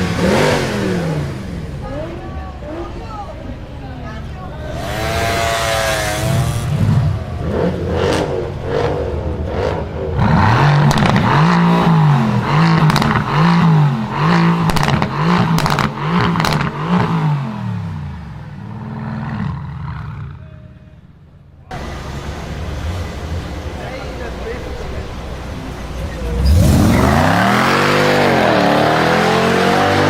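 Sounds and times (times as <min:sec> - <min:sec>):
car engine revving: 0:00.0 - 0:20.5, 0:21.1 - 0:30.0
exhaust cracks: 0:00.0 - 0:30.0.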